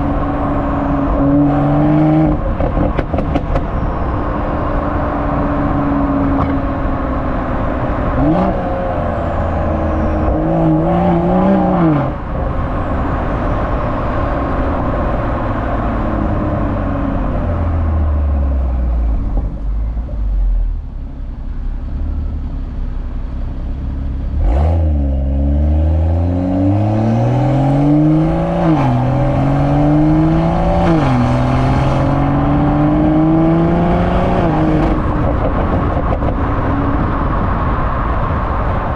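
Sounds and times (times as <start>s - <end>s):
car engine revving: 0.0s - 19.6s, 24.2s - 38.9s.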